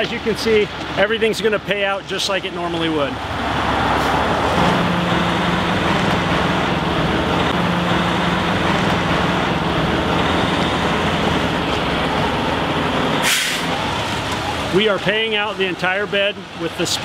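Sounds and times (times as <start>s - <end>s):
fire engine humming: 0.0s - 17.0s.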